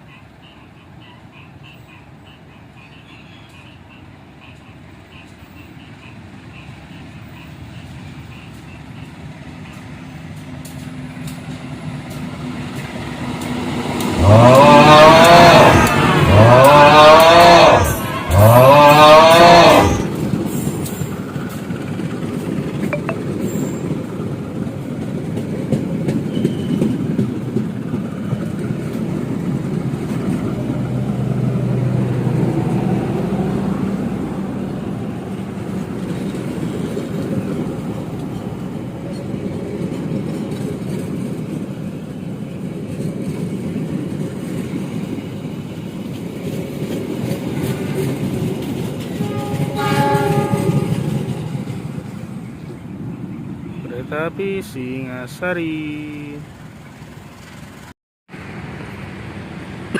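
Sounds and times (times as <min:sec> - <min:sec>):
train wheels on rails: 0:03.4 - 0:59.9.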